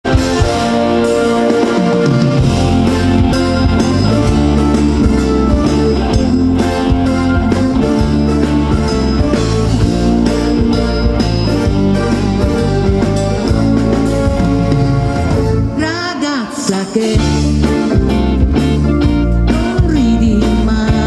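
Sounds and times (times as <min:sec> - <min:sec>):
bass guitar: 0:00.0 - 0:21.0
drum kit: 0:00.0 - 0:21.0
electric guitars: 0:00.0 - 0:21.0.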